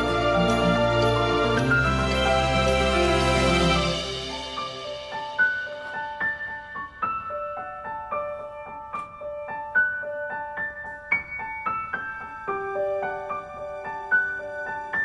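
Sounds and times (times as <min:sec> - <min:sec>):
gentle keyboard melody: 0:00.0 - 0:15.0.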